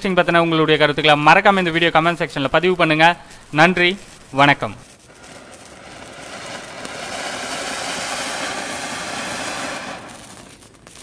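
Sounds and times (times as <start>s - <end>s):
firework fountain hissing: 0.0s - 11.0s.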